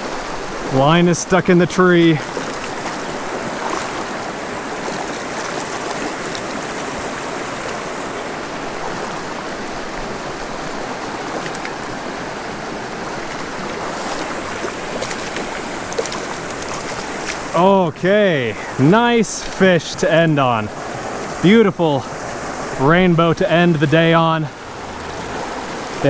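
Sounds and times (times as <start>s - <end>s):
creek flowing over rocks: 0.0s - 26.0s.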